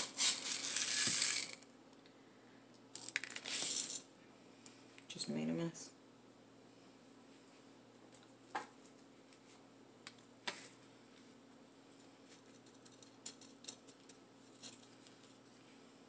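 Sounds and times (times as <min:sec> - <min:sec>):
low steady hum: 0:00.3 - 0:16.0.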